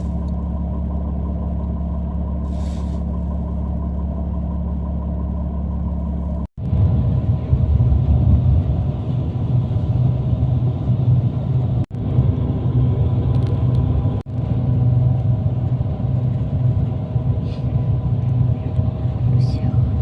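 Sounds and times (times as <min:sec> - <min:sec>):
vehicle rumble from inside: 0:00.0 - 0:20.0.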